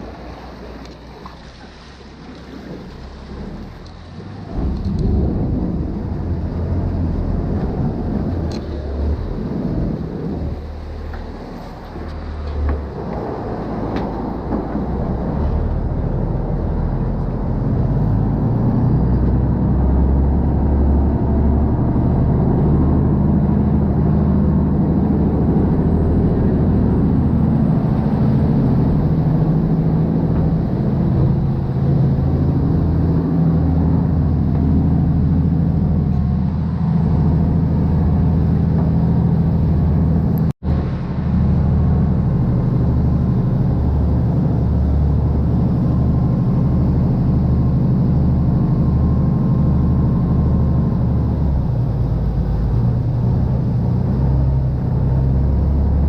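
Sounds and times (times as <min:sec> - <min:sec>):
boat engine low rumble: 0:00.0 - 0:56.0.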